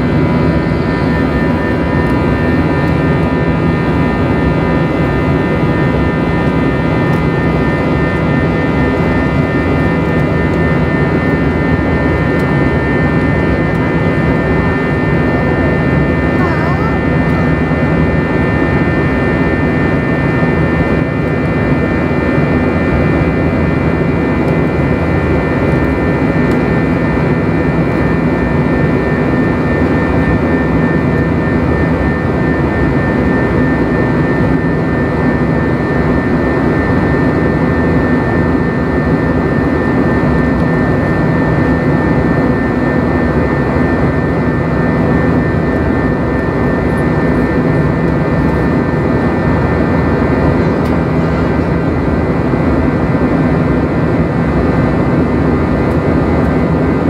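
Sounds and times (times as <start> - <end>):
jet engines inside cabin: 0.0 - 57.0.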